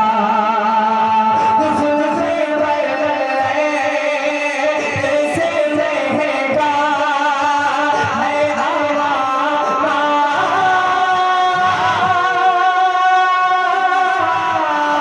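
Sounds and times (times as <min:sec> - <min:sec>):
wordless vocal chant with held notes: 0:00.0 - 0:15.0.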